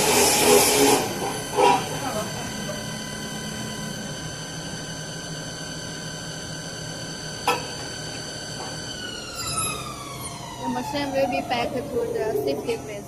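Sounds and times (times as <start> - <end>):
wood lathe whining: 0.0 - 13.0
low hum: 1.0 - 13.0.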